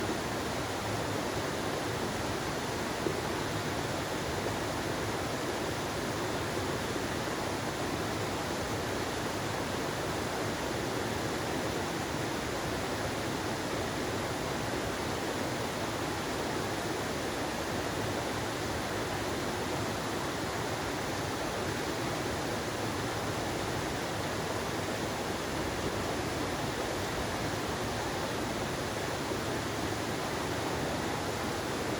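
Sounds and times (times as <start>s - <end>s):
stream water flowing: 0.0s - 31.9s.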